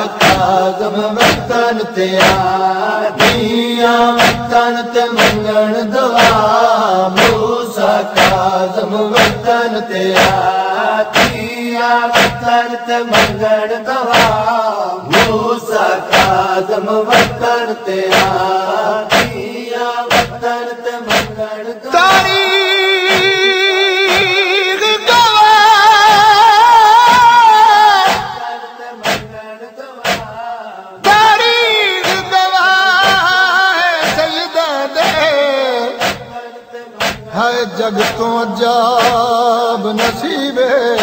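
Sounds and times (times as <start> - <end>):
steady beat of sharp strokes: 0.0 - 24.5, 26.0 - 30.4, 32.0 - 32.4, 33.0 - 33.4, 34.0 - 39.3, 40.0 - 40.3
man chanting lament: 0.0 - 41.0.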